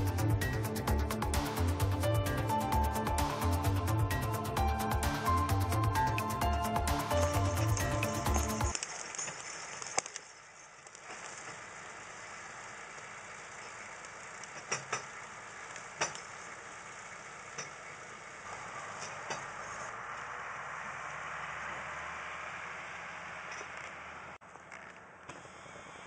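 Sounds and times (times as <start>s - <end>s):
tractor engine running: 0.0s - 25.4s.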